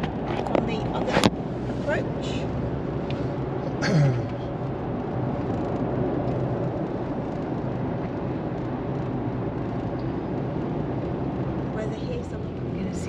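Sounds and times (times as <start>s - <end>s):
road and engine drone in car: 0.0s - 13.0s.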